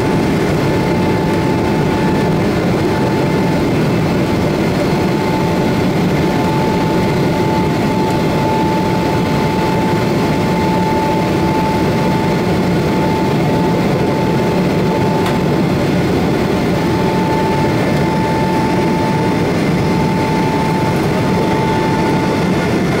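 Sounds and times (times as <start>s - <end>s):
airflow along fuselage: 0.0s - 23.0s
jet engines rushing: 0.0s - 23.0s.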